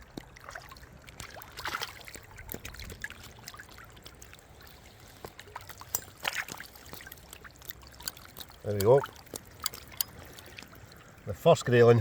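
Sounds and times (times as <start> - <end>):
small splashes and clicks: 0.0 - 11.7
river water flowing: 0.0 - 12.0.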